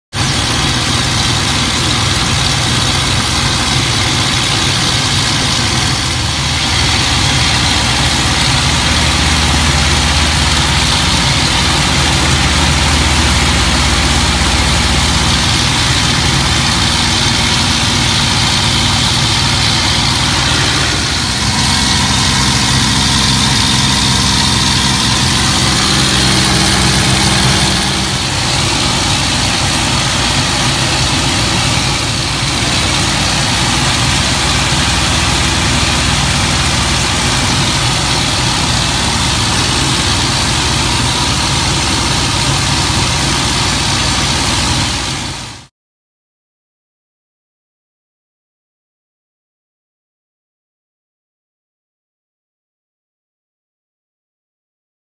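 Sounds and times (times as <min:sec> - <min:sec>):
aircraft engine drone: 0:00.1 - 0:45.7.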